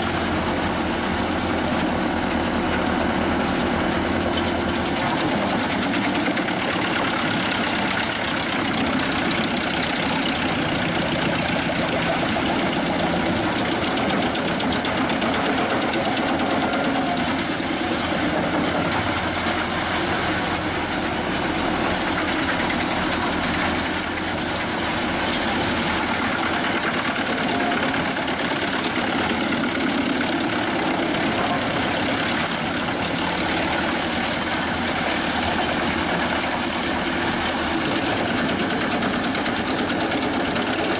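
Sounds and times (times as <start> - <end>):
tractor engine running: 0.0 - 40.9
wood chipper running: 0.0 - 40.9.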